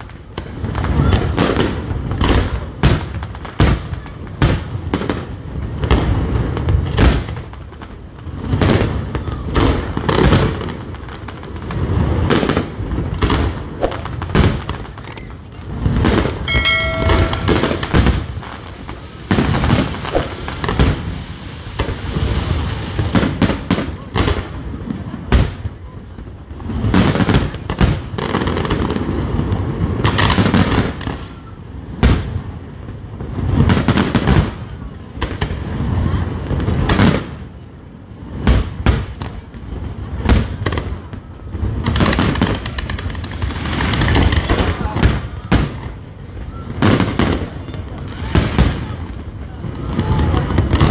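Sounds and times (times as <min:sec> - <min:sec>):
fireworks bangs with echo: 0:00.0 - 0:50.9.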